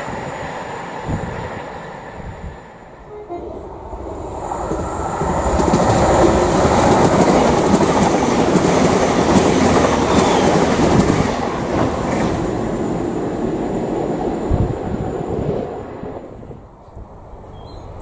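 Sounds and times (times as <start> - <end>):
train wheel and rail noise: 0.0 - 18.0.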